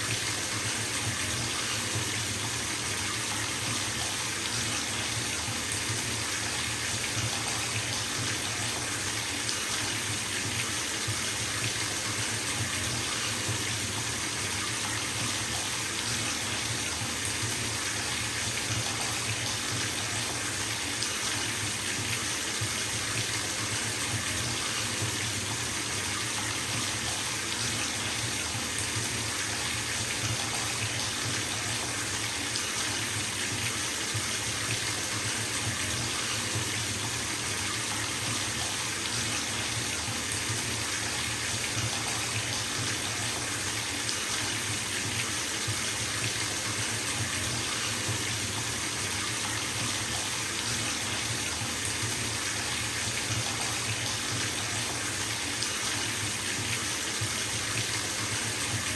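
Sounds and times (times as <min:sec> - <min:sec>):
tap water pouring into bathtub: 0:00.0 - 0:58.9.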